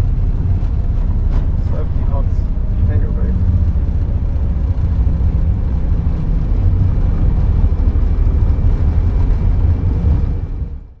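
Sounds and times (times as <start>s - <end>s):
aircraft cockpit low rumble: 0.0s - 11.0s.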